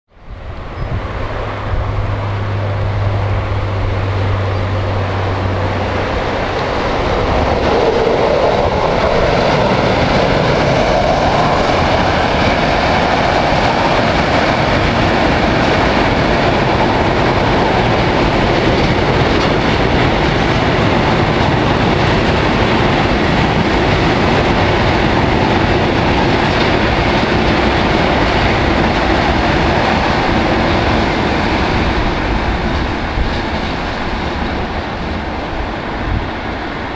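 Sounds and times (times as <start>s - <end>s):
train wheels rolling on rails: 0.2s - 36.9s.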